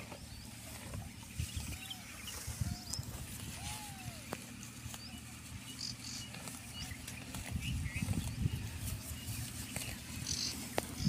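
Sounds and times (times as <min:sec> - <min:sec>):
buffalo chewing dry grass: 0:00.0 - 0:11.0.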